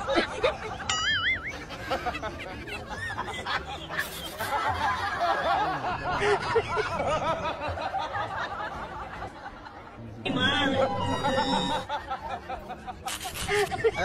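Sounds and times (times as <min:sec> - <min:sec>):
people laughing and giggling: 0:00.0 - 0:14.0.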